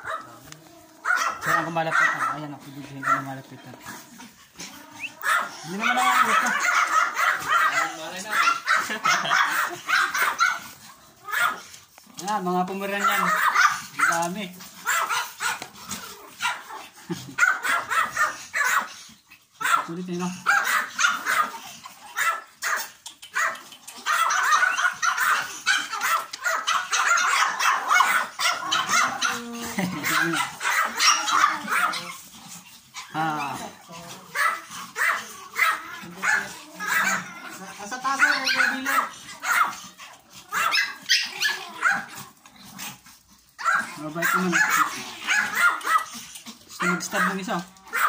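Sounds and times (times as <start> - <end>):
small dogs yapping and barking: 0.0 - 48.0.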